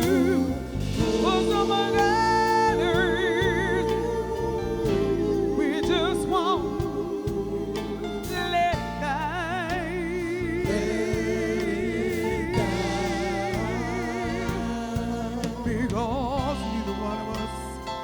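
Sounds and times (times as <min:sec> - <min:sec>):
soul band playing a slow song: 0:00.0 - 0:18.0.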